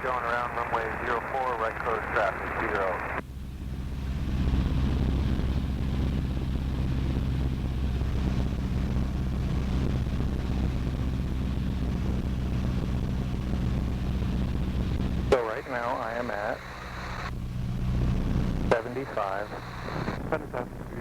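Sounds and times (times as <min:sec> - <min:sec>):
aircraft engine and propeller droning: 0:00.0 - 0:21.0.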